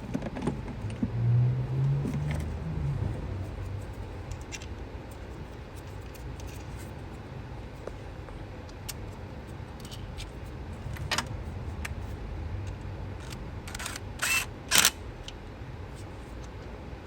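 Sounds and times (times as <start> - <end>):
low hum: 0.6 - 17.0.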